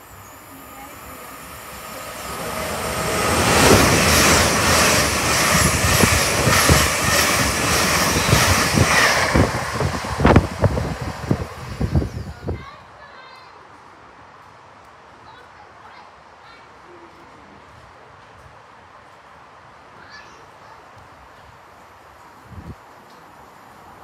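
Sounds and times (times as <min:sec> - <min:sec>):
train passing at speed: 0:00.0 - 0:16.6, 0:17.6 - 0:24.0.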